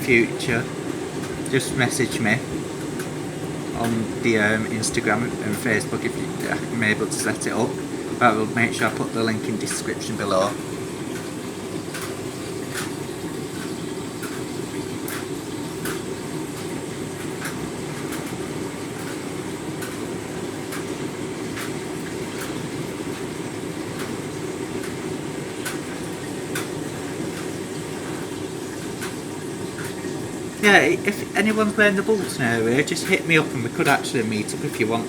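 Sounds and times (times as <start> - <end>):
light irregular clicks: 0.0 - 23.3, 23.9 - 35.0
washing machine water sloshing: 0.0 - 35.0.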